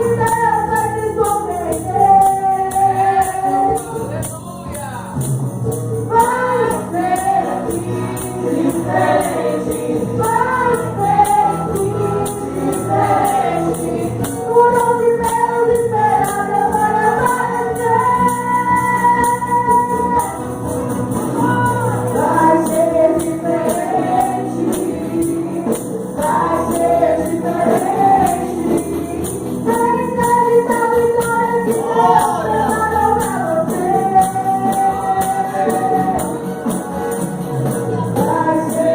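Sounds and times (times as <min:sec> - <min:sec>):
congregation singing a hymn: 0:00.0 - 0:04.1, 0:06.1 - 0:38.9
tambourine shaken in a steady beat: 0:00.0 - 0:38.9.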